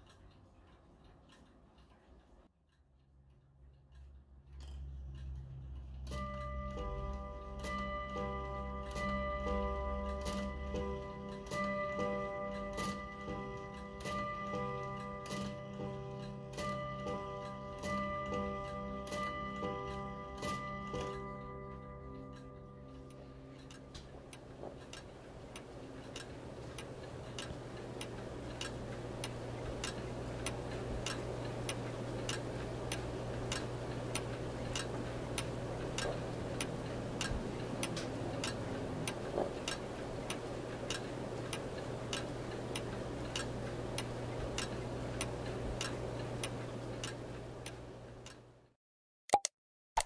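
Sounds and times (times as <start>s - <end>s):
wall clock ticking: 0.0s - 48.6s
steady low hum: 0.0s - 48.7s.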